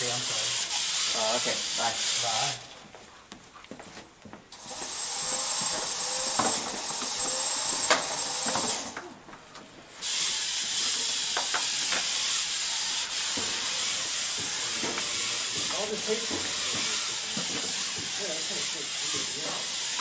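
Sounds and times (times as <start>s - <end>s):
robot motors whining: 0.0s - 2.8s, 4.6s - 20.0s.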